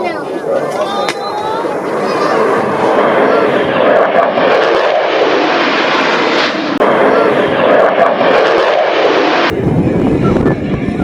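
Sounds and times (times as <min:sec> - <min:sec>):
jet aircraft passing: 0:00.0 - 0:11.0.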